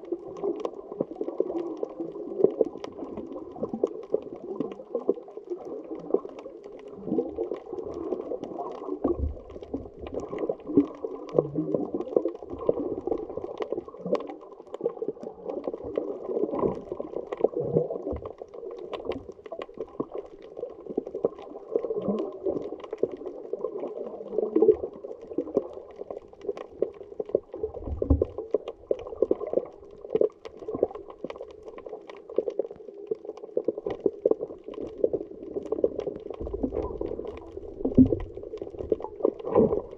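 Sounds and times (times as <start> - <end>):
sharp clicks and crackles: 0.0 - 39.9
underwater rush and bubbling: 0.0 - 39.9.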